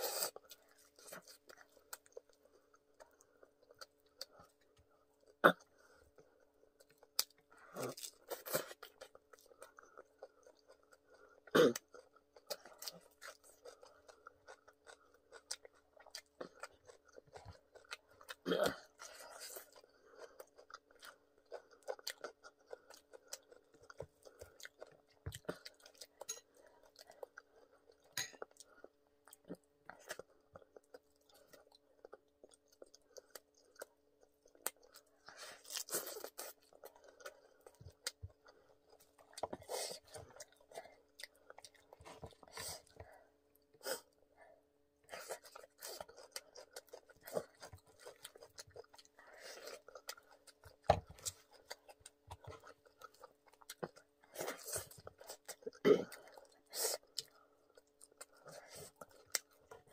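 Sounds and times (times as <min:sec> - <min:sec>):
chewing and crunching fried food: 0:00.0 - 0:59.9
faint steady hum: 0:00.0 - 0:59.9.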